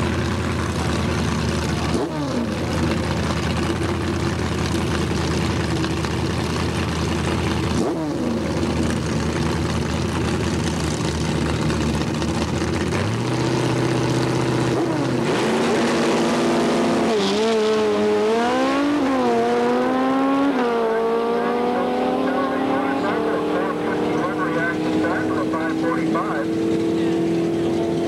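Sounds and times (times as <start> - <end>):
car engine accelerating: 0.0 - 28.0
drag motorcycle engine revving: 0.0 - 28.0.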